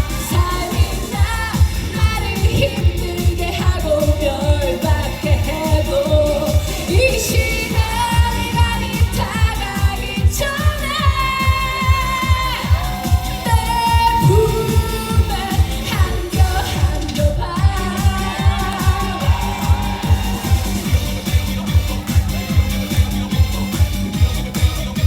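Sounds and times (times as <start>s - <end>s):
pop dance backing track: 0.0s - 25.0s.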